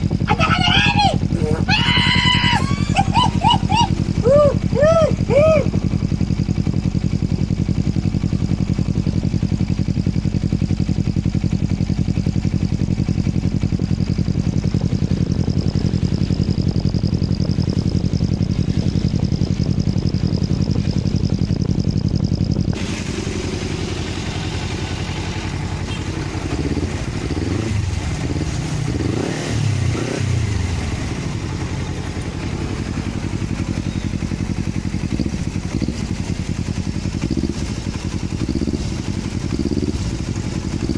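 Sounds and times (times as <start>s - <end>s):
motorcycle engine idling: 0.0s - 40.9s
motorcycle engine revving: 0.0s - 40.9s.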